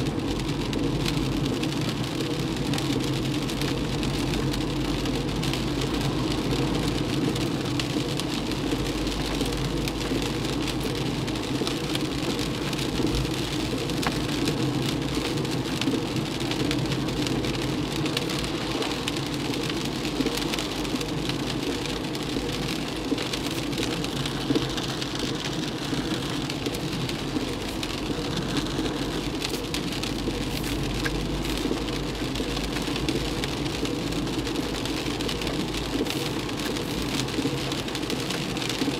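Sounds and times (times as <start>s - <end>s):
heavy rain on a car: 0.0s - 38.9s
road and engine noise: 0.0s - 38.9s.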